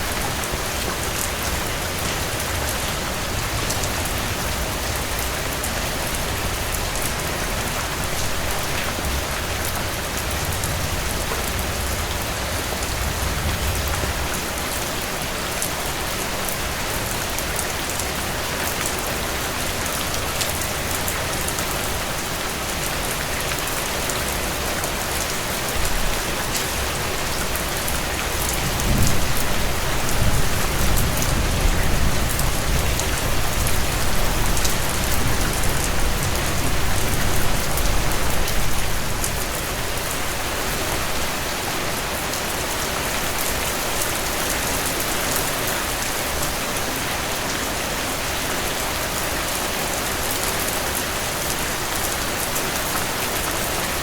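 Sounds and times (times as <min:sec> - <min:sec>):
heavy rain on porch: 0:00.0 - 0:54.0.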